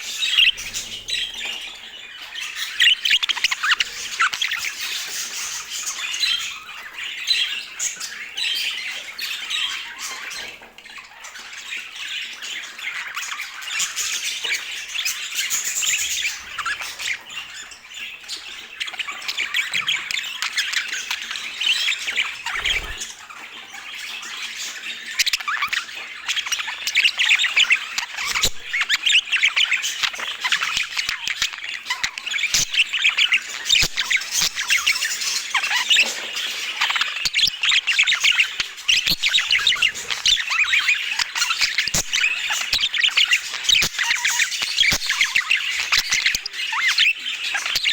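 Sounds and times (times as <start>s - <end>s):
budgerigar chirping and squawking: 0.0s - 47.9s.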